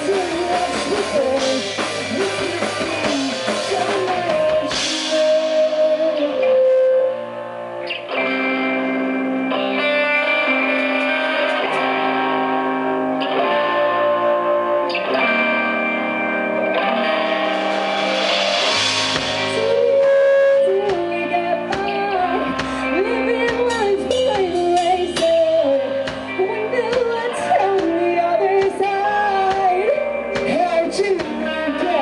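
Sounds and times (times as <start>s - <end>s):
electric guitar chords: 0.0s - 32.0s
live rock band playing: 0.0s - 32.0s.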